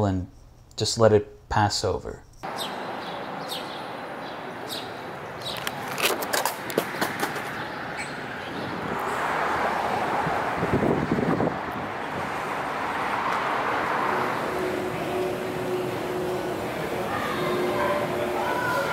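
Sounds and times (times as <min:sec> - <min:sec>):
traffic hum: 0:00.0 - 0:18.9.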